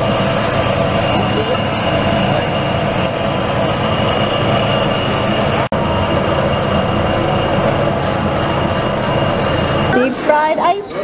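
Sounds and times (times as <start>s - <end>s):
machine roar with high whine: 0.0s - 11.0s.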